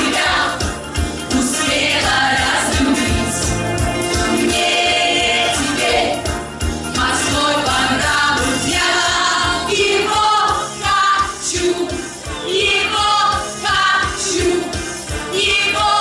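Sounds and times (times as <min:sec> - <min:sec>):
women singing in harmony: 0:00.0 - 0:00.7, 0:01.3 - 0:03.6, 0:04.2 - 0:06.3, 0:06.9 - 0:16.0
amplified music with steady beat: 0:00.0 - 0:15.9.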